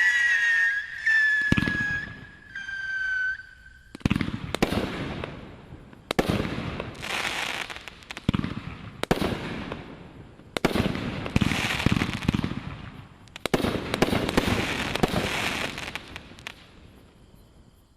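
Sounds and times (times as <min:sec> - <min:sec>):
firework bangs: 0:00.0 - 0:16.8
firework hissing and crackling: 0:00.0 - 0:16.8.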